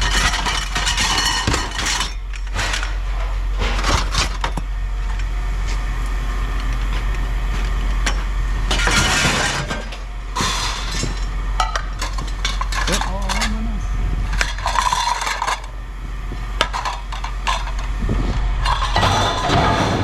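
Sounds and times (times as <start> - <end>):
scrap metal clattering: 0.0 - 4.6, 6.9 - 13.6, 14.3 - 15.8, 16.6 - 20.0
steady low hum: 0.0 - 20.0.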